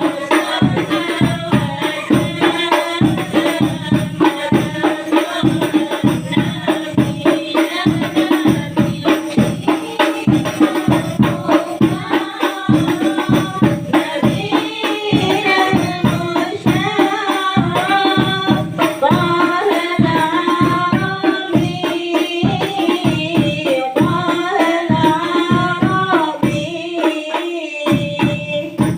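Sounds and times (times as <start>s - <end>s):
frame drums beating: 0.0s - 28.9s
women singing in unison: 0.0s - 28.9s.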